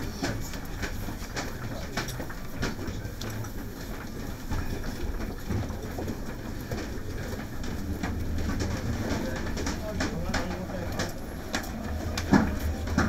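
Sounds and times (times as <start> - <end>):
footsteps on stairs: 0.0 - 13.0.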